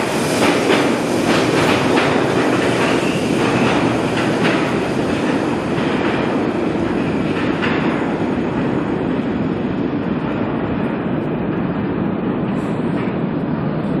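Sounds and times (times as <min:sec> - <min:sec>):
subway train rumbling away: 0:00.0 - 0:14.0.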